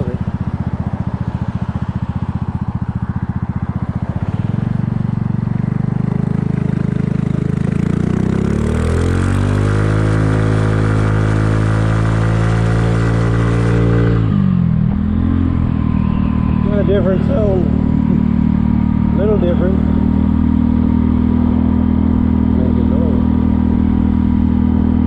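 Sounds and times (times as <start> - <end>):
scooter engine accelerating: 0.0 - 25.0.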